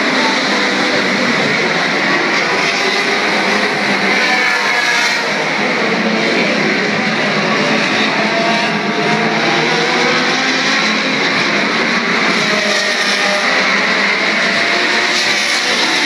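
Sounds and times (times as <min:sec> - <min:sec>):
racing car engines at speed: 0:00.0 - 0:16.0.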